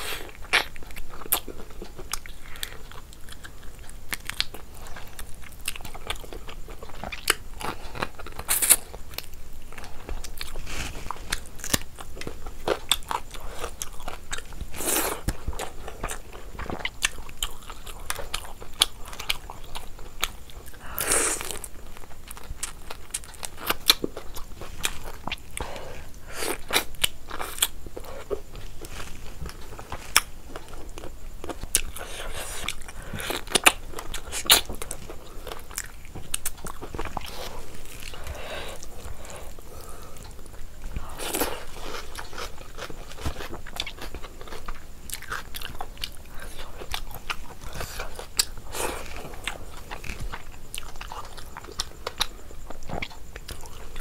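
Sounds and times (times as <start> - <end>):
person chewing and biting: 0.0 - 54.0.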